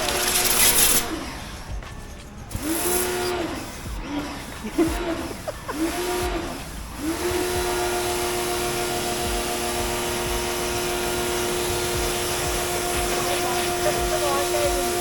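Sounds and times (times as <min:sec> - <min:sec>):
pressure washer motor and pump: 0:00.0 - 0:15.0
water spray hissing: 0:00.0 - 0:15.0.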